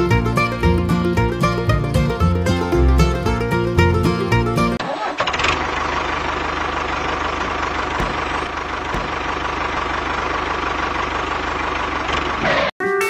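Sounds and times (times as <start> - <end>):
tractor engine chugging: 0.0 - 12.7.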